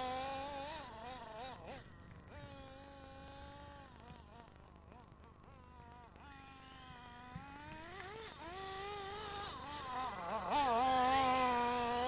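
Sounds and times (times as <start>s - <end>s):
toy buggy engine buzzing: 0.0s - 12.0s.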